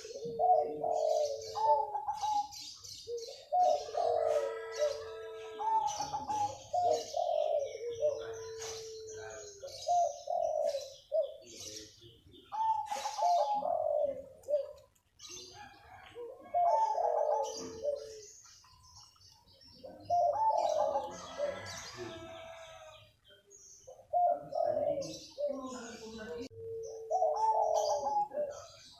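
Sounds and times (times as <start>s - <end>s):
dove cooing: 0.0s - 18.6s, 19.7s - 23.1s, 23.9s - 28.9s
small birds chirping: 0.0s - 28.9s.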